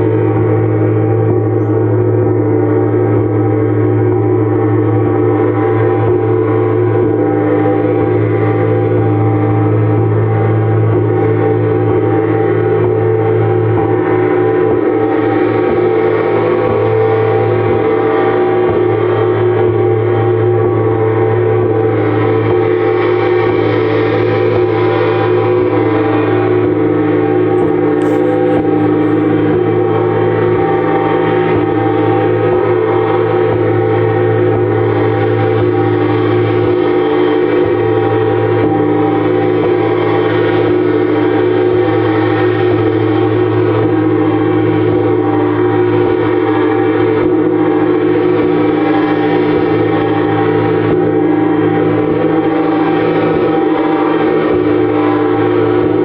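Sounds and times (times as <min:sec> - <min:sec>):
gongs ringing: 0:00.0 - 0:54.1.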